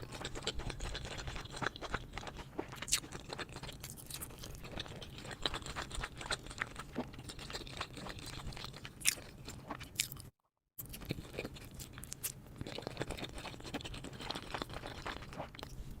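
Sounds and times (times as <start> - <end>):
person chewing crisp food: 0.0 - 16.0.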